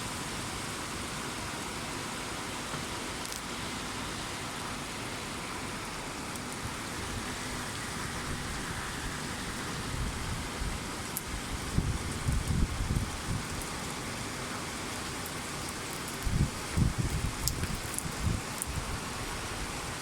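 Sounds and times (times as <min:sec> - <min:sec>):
steady rain hissing: 0:00.0 - 0:20.0.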